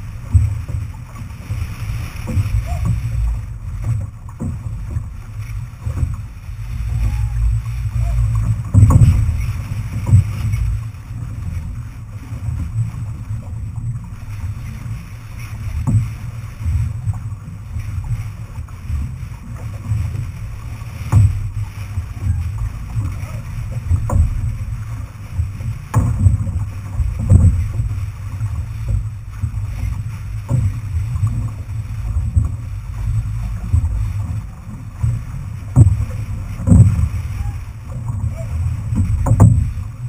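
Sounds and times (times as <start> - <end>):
wind and water rumble: 0.0 - 40.0.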